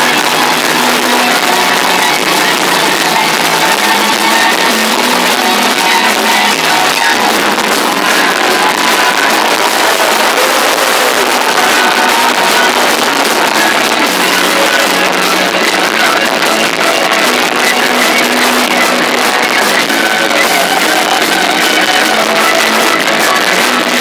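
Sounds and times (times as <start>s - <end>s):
electric guitars: 0.0s - 24.0s
live rock band playing: 0.0s - 24.0s.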